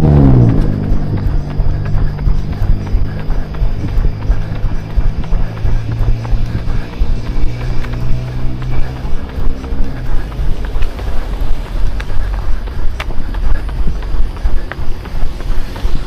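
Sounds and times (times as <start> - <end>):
running footsteps: 0.0 - 16.0.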